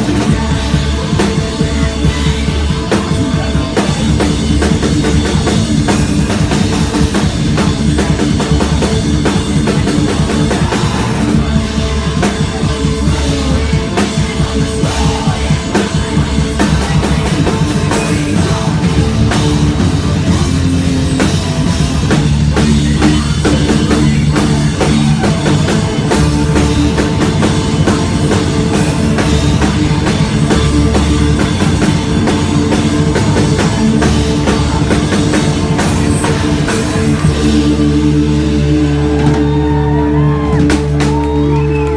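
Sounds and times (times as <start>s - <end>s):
drum kit pounding: 0.0s - 41.9s
live rock band playing loud: 0.0s - 41.9s.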